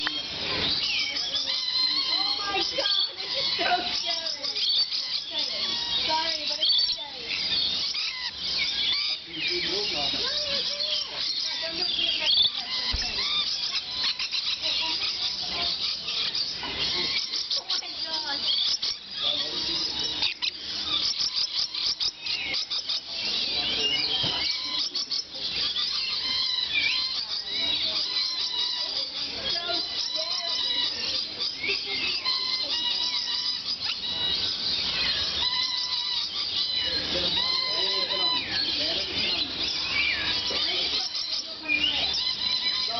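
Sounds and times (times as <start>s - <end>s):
lorikeets chattering: 0.0s - 42.9s
lower bird voices: 0.0s - 42.9s.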